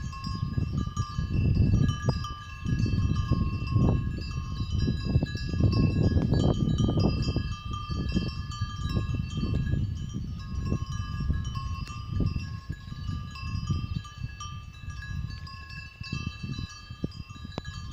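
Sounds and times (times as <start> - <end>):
cow bells clanking: 0.0 - 17.9.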